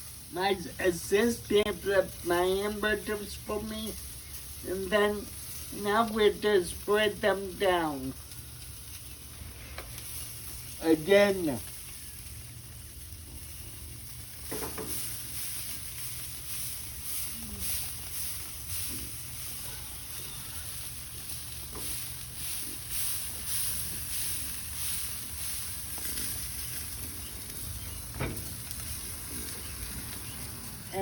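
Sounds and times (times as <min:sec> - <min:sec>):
low steady rumble: 0:00.0 - 0:31.0
meat sizzling on a grill: 0:00.0 - 0:31.0.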